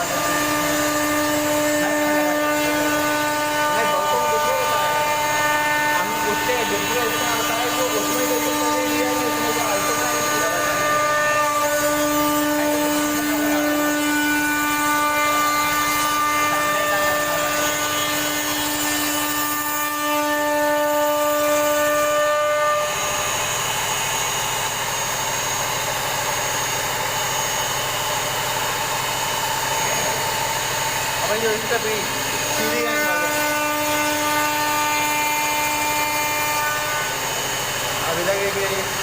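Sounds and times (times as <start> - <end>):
machine cutting noise: 0.0 - 39.0
router spindle whine: 0.0 - 39.0.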